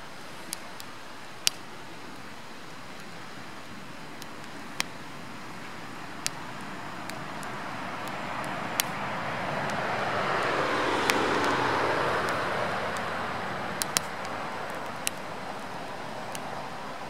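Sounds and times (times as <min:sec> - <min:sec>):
broad rushing noise: 0:00.0 - 0:17.0
burning firewood crackling: 0:00.0 - 0:17.0
sharp pops of fire: 0:00.4 - 0:03.3, 0:04.0 - 0:17.0.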